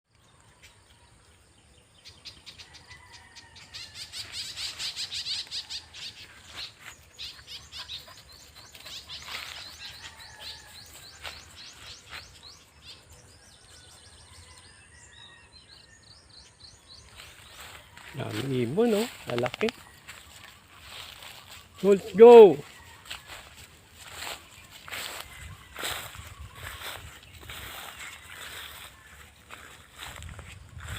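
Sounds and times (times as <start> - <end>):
flock of small birds chirping: 0.1 - 30.9.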